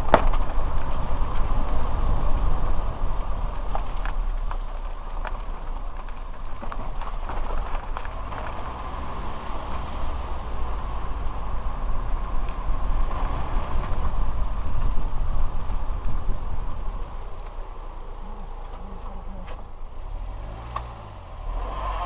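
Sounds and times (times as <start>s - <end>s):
engine and tyre rumble: 0.0s - 22.0s.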